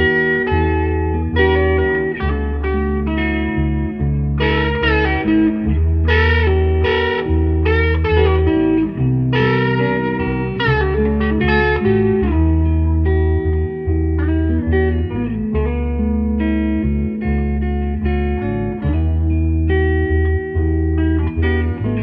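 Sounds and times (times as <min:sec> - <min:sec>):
looped bassline: 0:00.0 - 0:22.0
overdriven electric lead guitar: 0:00.0 - 0:22.0.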